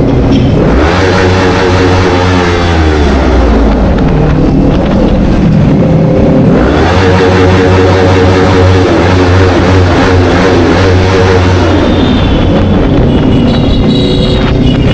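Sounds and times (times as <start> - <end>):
motorcycle engine while riding: 0.0 - 14.9.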